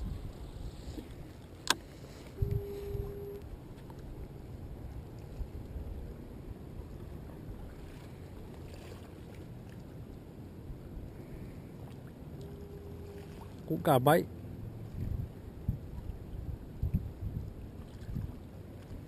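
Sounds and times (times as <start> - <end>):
surf rumble: 0.0 - 19.0
wind: 0.0 - 19.0.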